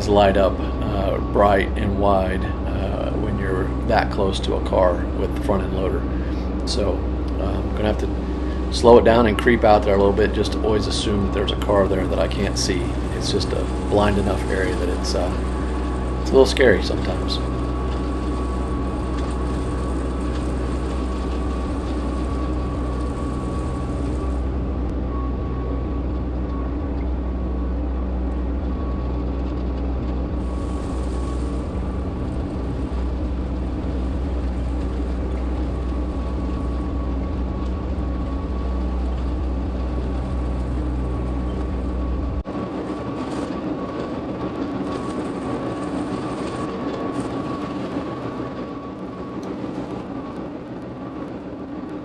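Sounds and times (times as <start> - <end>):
tractor diesel engine running: 0.0 - 50.6.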